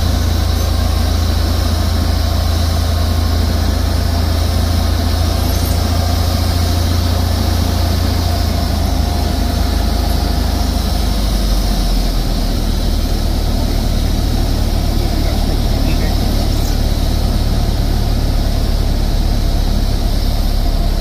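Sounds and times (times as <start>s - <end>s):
airflow rushing: 0.0s - 21.0s
propeller plane engine drone: 0.0s - 21.0s.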